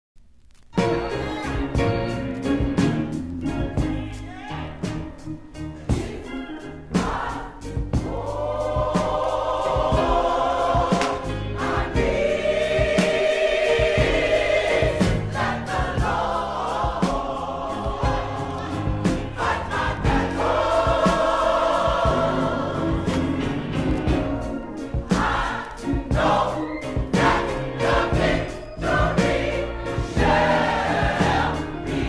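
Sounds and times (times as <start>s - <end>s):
band with steady beat: 0.8s - 32.0s
choir singing held chords: 0.8s - 32.0s.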